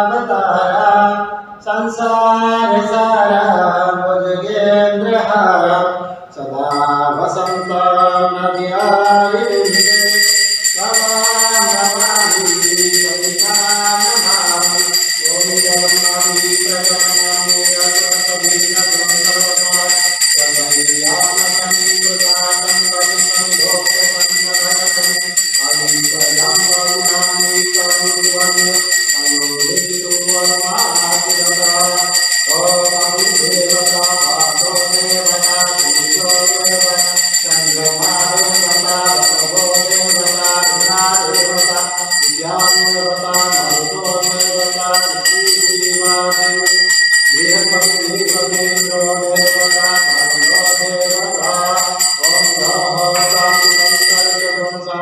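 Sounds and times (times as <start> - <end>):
people singing devotional music: 0.0 - 55.0
high metallic ringing: 6.7 - 54.9
jingling tambourine percussion: 8.8 - 54.8.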